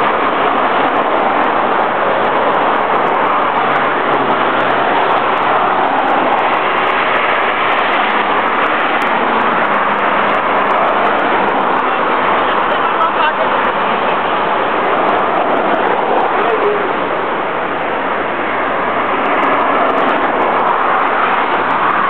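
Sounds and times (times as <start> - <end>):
rushing road noise: 0.0 - 22.0.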